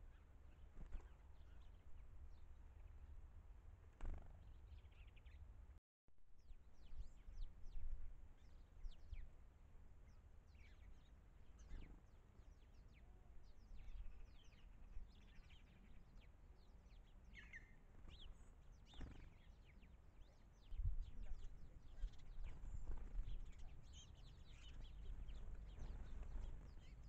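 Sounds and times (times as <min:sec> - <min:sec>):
small birds chirping: 0:00.0 - 0:03.1, 0:04.0 - 0:05.5, 0:06.4 - 0:09.4, 0:10.0 - 0:27.0.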